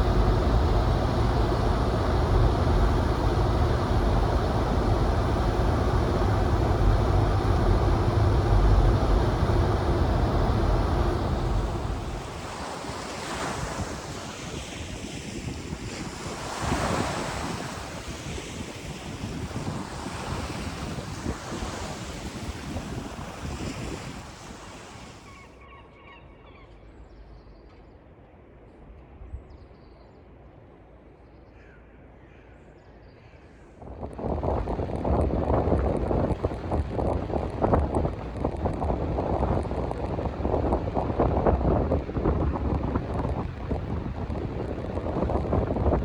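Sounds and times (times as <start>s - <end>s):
sea surf washing in: 0.0s - 25.3s, 33.8s - 46.0s
wind buffeting microphone: 0.0s - 25.3s, 33.8s - 46.0s.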